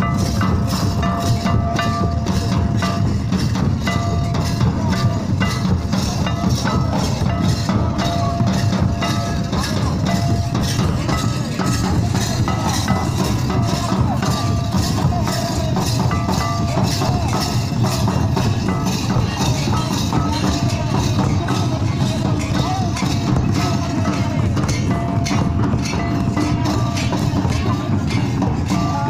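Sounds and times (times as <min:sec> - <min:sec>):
drums beating fast dance rhythm: 0:00.0 - 0:29.0.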